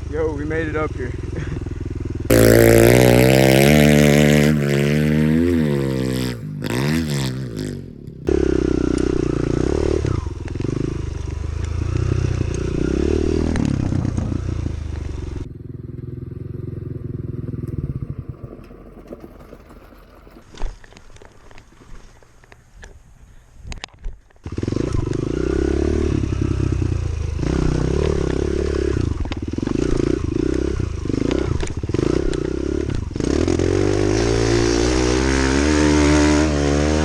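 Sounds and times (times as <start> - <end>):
small motorbike engine revving: 0.9 - 20.4, 24.4 - 37.0.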